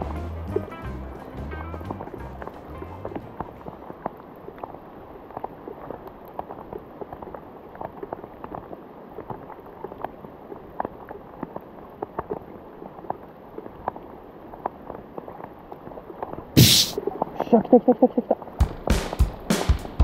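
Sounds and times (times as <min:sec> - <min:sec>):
rain on water: 0:00.0 - 0:20.0
raindrops hitting rain jacket: 0:00.0 - 0:20.0.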